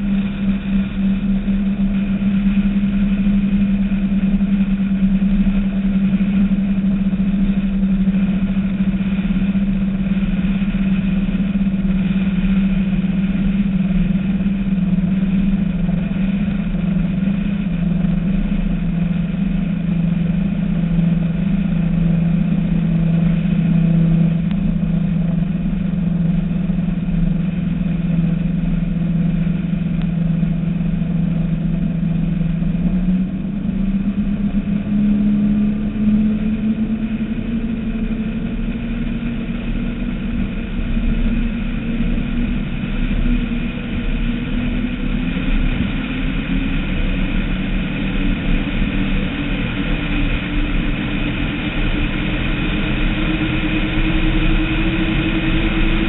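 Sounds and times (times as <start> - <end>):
boat engines droning: 0.0 - 56.0.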